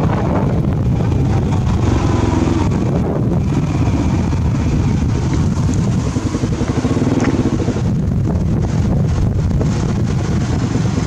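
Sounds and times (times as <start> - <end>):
motorbike engine running: 0.0 - 11.0
wind buffeting microphone: 0.0 - 11.0.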